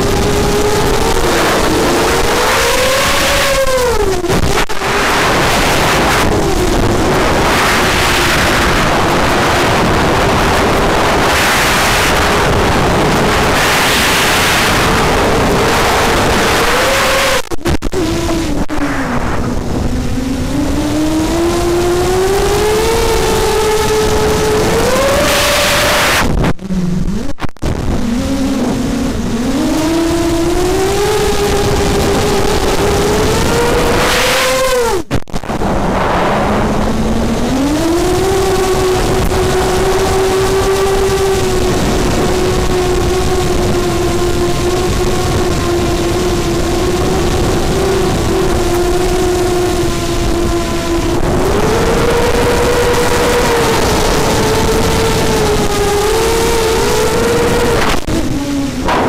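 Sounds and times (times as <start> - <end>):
electric motor and propeller whine: 0.0 - 59.0.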